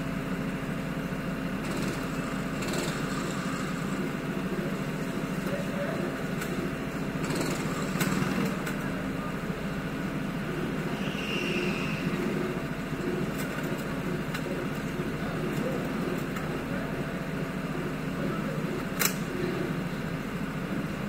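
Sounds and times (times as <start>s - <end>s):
go-kart motor drone: 0.0s - 21.0s.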